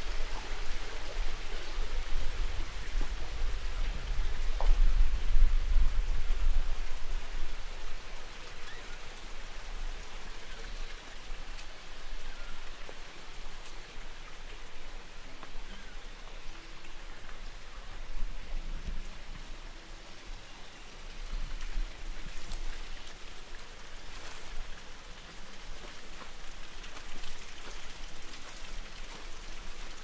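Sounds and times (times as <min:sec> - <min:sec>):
rain falling steadily: 0:00.0 - 0:30.0.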